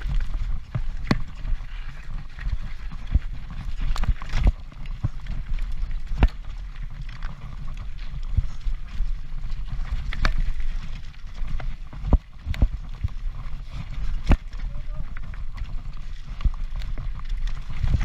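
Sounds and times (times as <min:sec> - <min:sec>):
bike knocks and rattles: 0:00.0 - 0:18.0
wind and tyres rumbling: 0:00.0 - 0:18.0.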